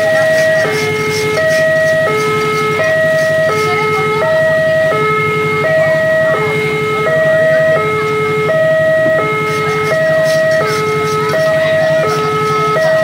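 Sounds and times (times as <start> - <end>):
low engine drone: 0.0 - 13.0
two-tone crossing alarm: 0.0 - 13.0.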